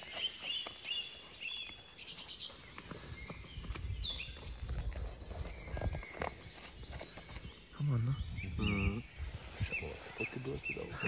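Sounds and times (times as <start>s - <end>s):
hands scraping soil and roots: 0.0s - 7.8s, 8.7s - 11.0s
small bird chirping: 0.0s - 11.0s.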